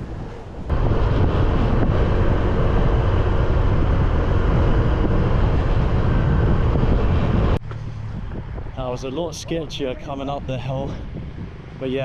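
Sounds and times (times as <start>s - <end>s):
road noise: 0.0s - 12.0s
wind rush on microphone: 0.0s - 12.0s.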